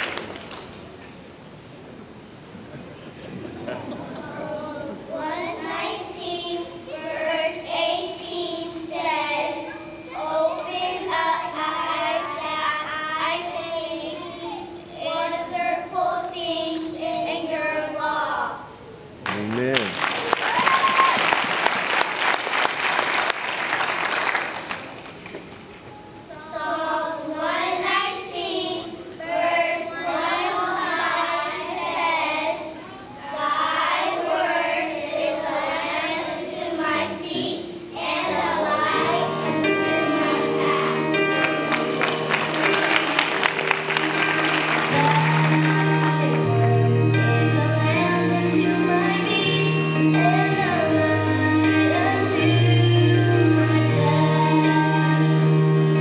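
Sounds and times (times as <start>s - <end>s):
children singing together: 3.7s - 18.8s, 26.2s - 56.0s.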